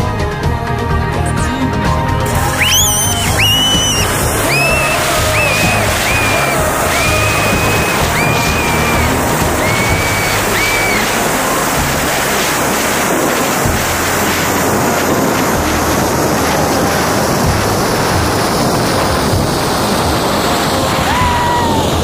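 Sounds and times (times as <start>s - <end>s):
wind rushing over microphone: 2.3s - 22.0s.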